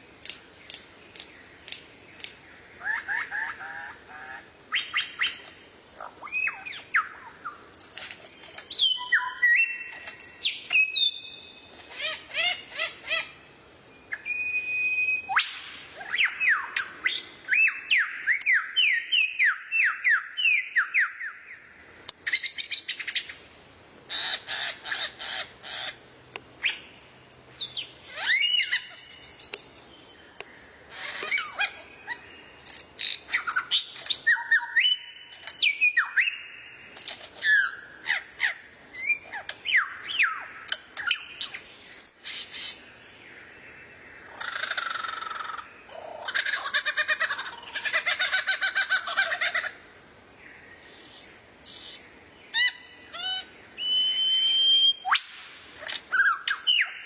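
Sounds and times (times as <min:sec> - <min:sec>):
songbird song: 0:00.0 - 0:57.0.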